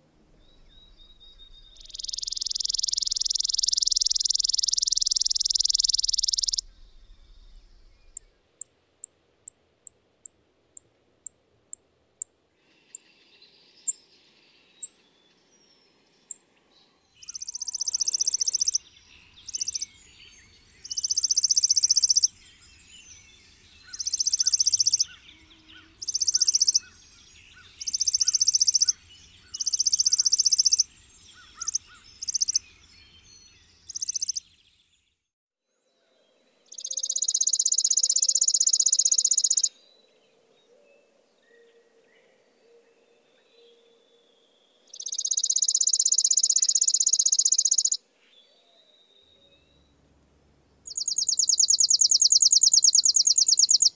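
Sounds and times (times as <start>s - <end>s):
sparrow dry trill song: 0.0s - 34.9s, 36.7s - 50.0s, 50.8s - 53.9s.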